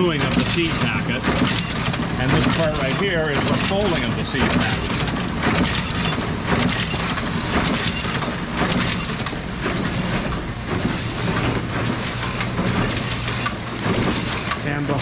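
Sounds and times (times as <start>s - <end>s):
clacking machine linkages: 0.0s - 15.0s
machine humming: 0.0s - 15.0s.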